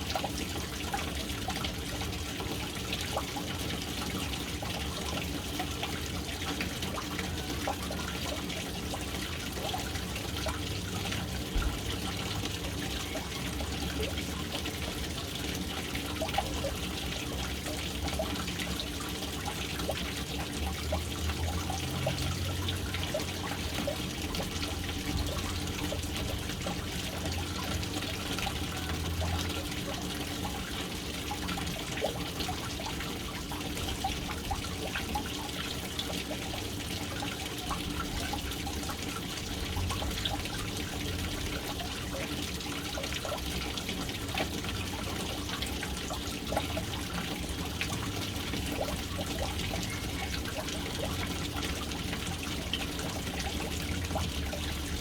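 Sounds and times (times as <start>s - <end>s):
water splashing into a tank: 0.0s - 55.0s.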